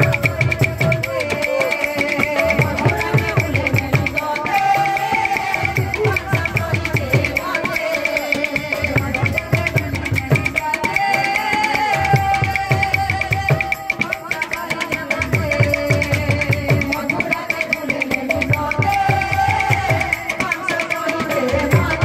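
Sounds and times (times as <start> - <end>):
hand drums in fast rhythm: 0.0 - 22.0
person singing over loudspeaker: 0.0 - 22.0.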